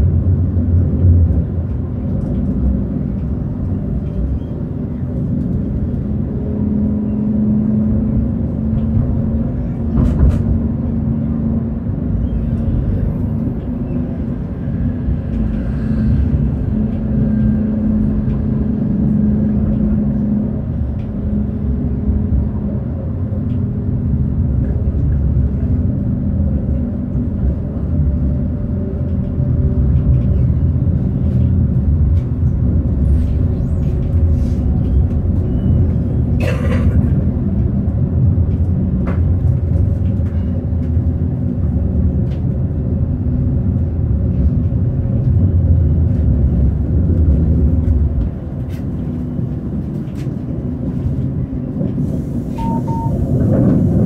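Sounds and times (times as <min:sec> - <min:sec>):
tram rumbling on rails: 0:00.0 - 0:54.0.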